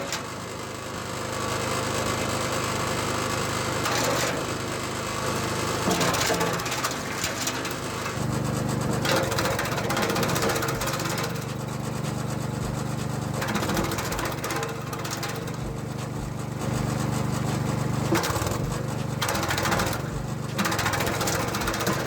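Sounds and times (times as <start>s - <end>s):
petrol engine running: 0.0s - 22.0s
branches cracking in a chipper: 3.8s - 22.0s.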